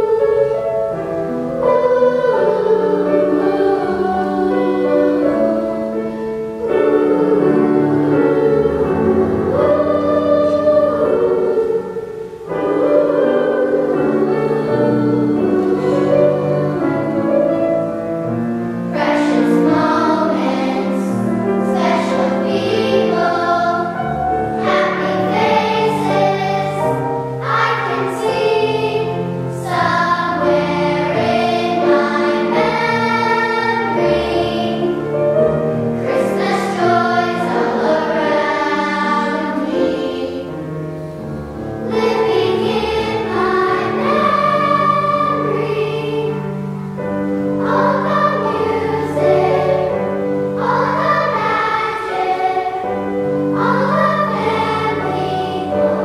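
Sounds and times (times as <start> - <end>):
girls' choir singing: 0.0 - 56.0
grand piano accompaniment: 0.0 - 56.0.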